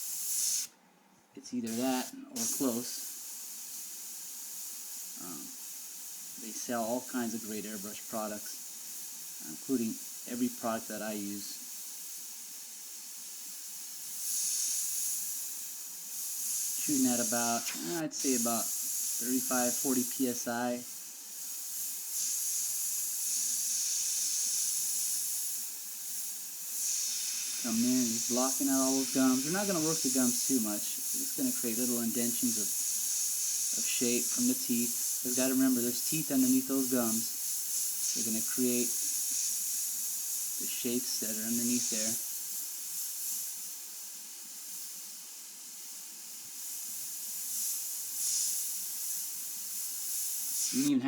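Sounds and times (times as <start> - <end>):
airbrush air hiss: 0.0 - 0.8, 1.5 - 51.0.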